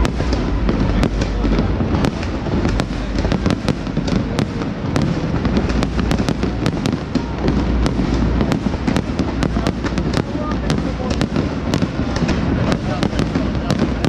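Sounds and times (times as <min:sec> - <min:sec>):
firework cracks and bangs: 0:00.0 - 0:14.0
low rumble of bursting shells: 0:00.0 - 0:14.0.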